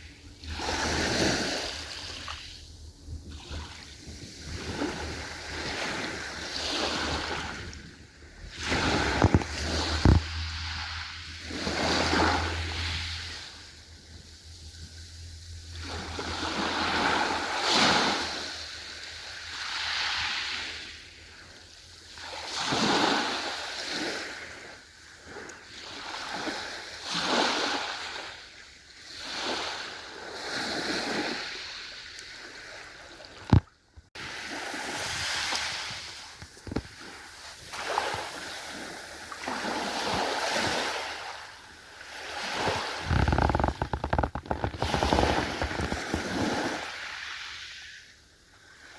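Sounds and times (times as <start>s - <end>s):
ocean waves washing in: 0.0s - 28.5s, 34.2s - 48.9s.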